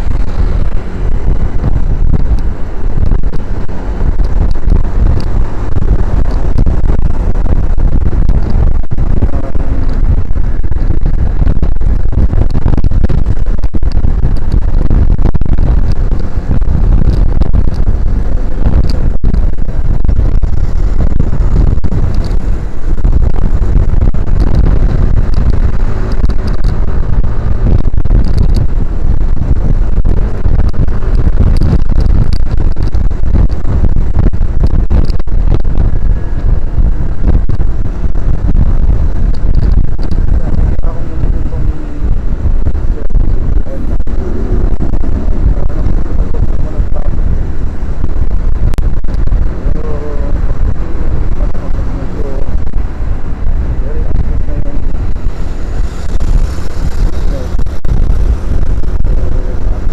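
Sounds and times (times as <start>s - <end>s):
motorcycle engine: 0.0s - 59.9s
road noise: 0.0s - 59.9s
wind rumbling on microphone: 0.0s - 59.9s.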